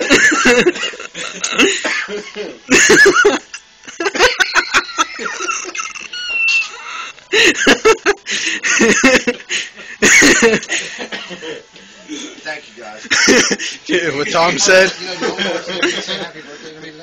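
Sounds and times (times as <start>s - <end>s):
group of people laughing: 0.0s - 11.7s, 13.1s - 13.8s, 14.8s - 16.5s.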